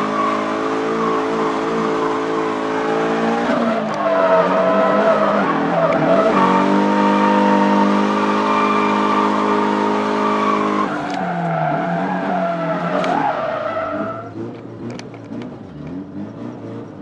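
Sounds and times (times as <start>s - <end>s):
tyres squealing: 0.0s - 14.3s
car engine revving high: 0.0s - 17.0s.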